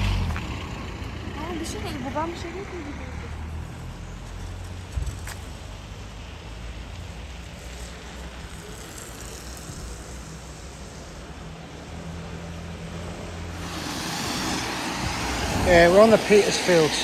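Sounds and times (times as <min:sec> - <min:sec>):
street traffic hum: 0:00.0 - 0:17.0
vehicle approaching: 0:00.0 - 0:17.0.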